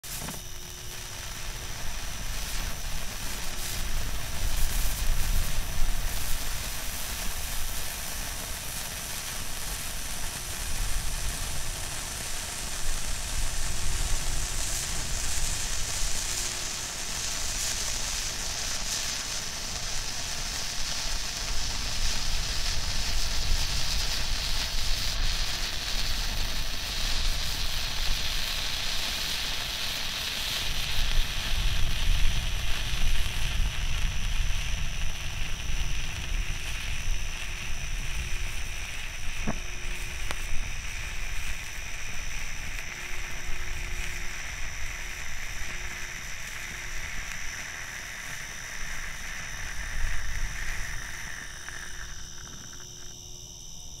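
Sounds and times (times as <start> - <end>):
firework hissing spray: 0.0 - 54.0.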